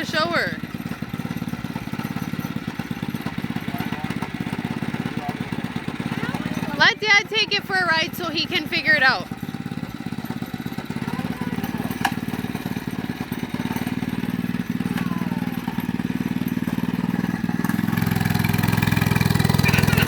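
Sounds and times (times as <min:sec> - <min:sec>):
mini bike engine running: 0:00.0 - 0:20.0.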